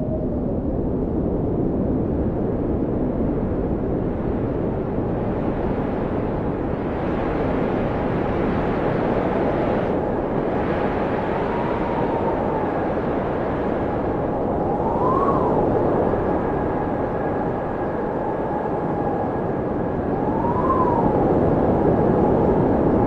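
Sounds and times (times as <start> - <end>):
blizzard wind howling: 0.0 - 23.0.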